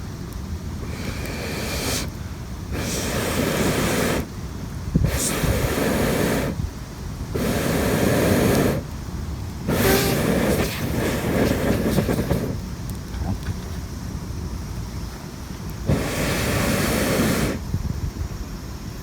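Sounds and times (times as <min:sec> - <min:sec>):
fire crackle: 0:00.0 - 0:19.0
breath blowing on campfire: 0:00.7 - 0:09.0, 0:09.6 - 0:13.9, 0:14.8 - 0:18.1.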